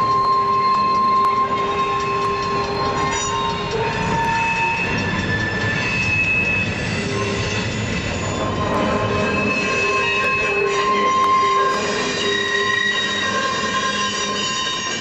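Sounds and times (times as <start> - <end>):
crossing bell ringing: 0.0 - 15.0
train wheels rolling over rail joints: 0.0 - 15.0
wheel flanges squealing: 0.0 - 15.0.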